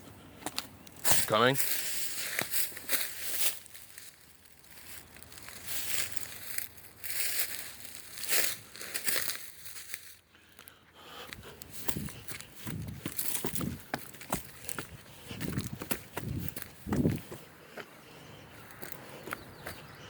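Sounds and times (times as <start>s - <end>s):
footsteps crunching dry leaves: 0.5s - 10.2s, 11.2s - 17.9s.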